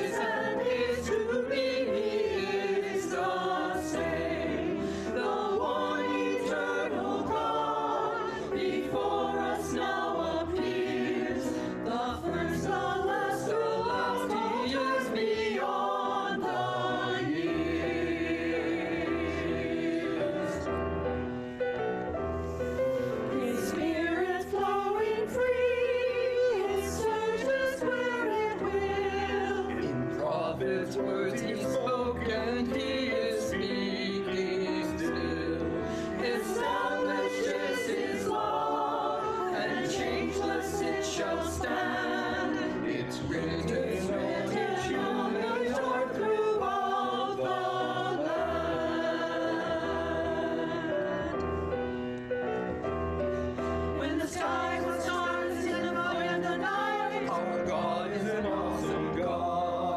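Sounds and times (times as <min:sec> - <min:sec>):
mixed choir singing: 0:00.0 - 0:59.9
piano accompaniment: 0:00.0 - 0:59.9.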